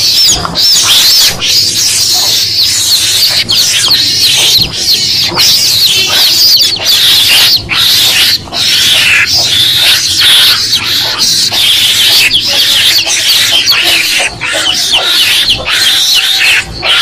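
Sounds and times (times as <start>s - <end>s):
chicks peeping shrilly: 0.0s - 17.0s
mongoose calls: 0.0s - 17.0s.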